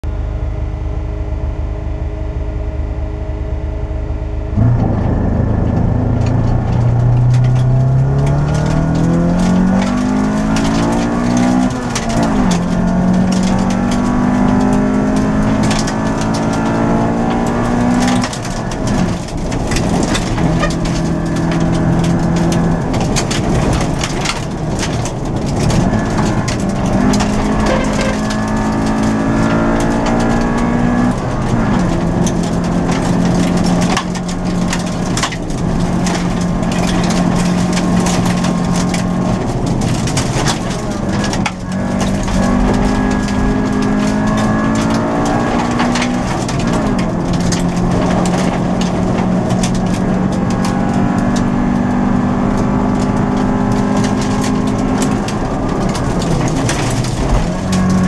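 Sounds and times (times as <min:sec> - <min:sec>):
rally car engine revving: 0:02.5 - 0:58.0
gravel crackling against car underside: 0:04.5 - 0:58.0.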